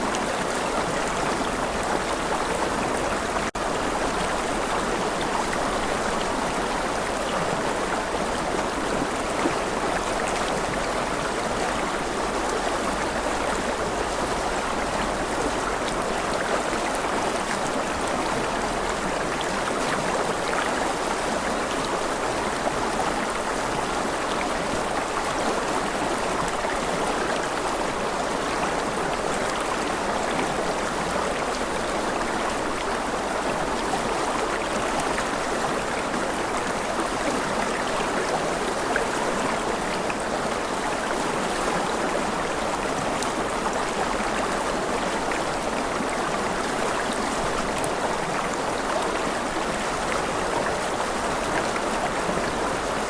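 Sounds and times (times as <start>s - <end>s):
stream running water: 0.0s - 53.0s.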